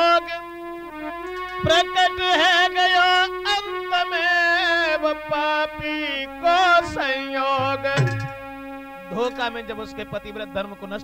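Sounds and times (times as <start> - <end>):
devotional folk music: 0.0 - 11.0.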